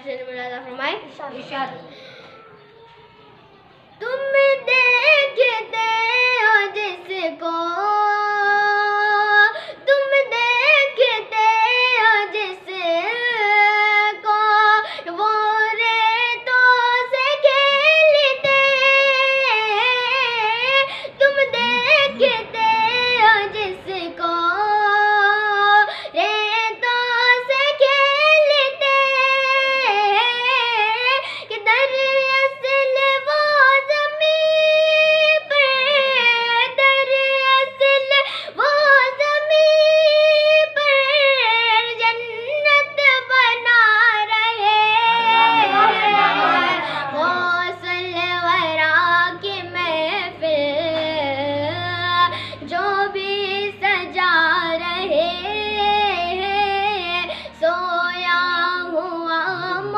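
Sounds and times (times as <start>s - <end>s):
boy singing unaccompanied: 4.0s - 59.9s.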